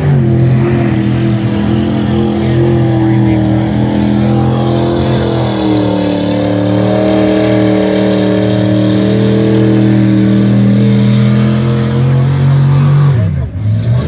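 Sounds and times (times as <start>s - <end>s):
truck engine running hard: 0.0s - 14.0s.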